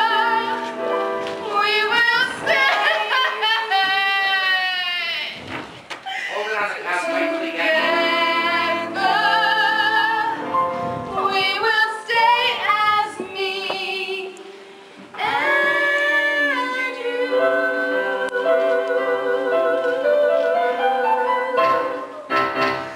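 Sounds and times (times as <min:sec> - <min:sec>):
women singing with vibrato: 0:00.0 - 0:05.4, 0:07.0 - 0:14.5, 0:15.1 - 0:22.3.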